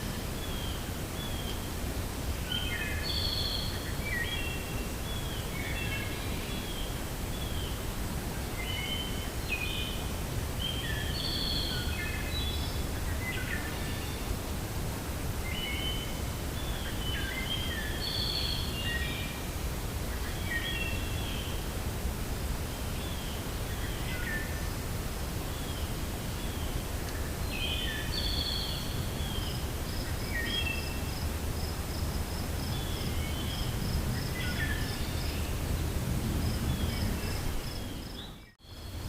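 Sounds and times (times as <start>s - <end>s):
wind through forest: 0.0s - 39.0s.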